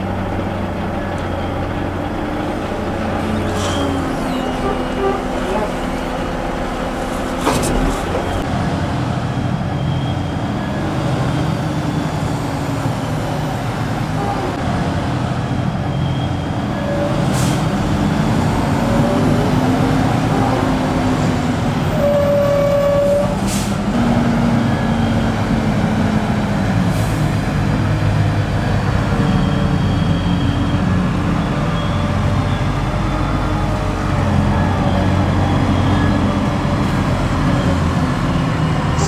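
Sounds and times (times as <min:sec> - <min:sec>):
heavy diesel engines revving: 0:00.0 - 0:39.0.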